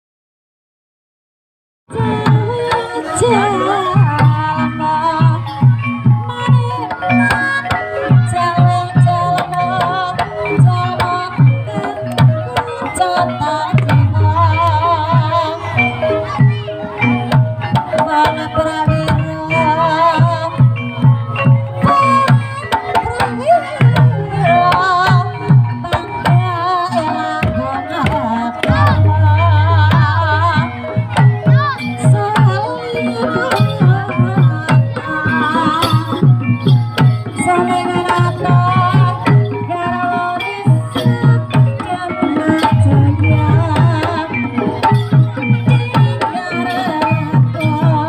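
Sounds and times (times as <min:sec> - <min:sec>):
gamelan melody: 0:01.9 - 0:48.0
hand drums beating: 0:01.9 - 0:48.0.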